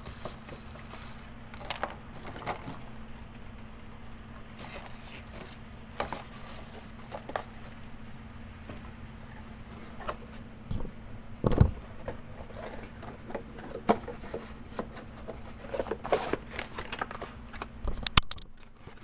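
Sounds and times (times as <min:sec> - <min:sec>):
parts and packaging rustling: 0:00.0 - 0:08.0, 0:11.5 - 0:19.0
faint steady hum: 0:00.0 - 0:19.0.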